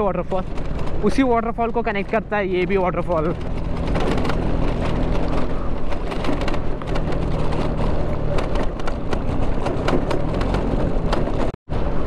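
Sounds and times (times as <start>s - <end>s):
rattles and knocks from bumps: 0.0s - 11.6s
scooter engine running: 0.0s - 12.0s.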